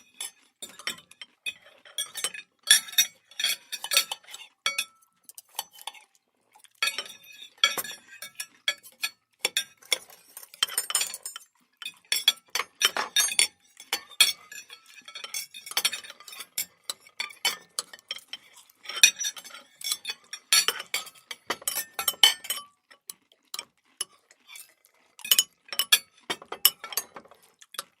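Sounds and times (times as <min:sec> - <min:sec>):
cutlery clinking on plates: 0:00.1 - 0:06.0, 0:06.8 - 0:22.8, 0:23.6 - 0:28.0.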